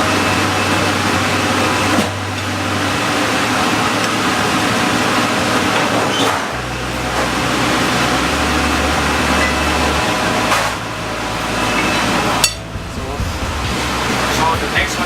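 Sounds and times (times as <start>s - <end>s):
low drone: 0.0s - 15.0s
ventilation air rush and hum: 0.0s - 15.0s.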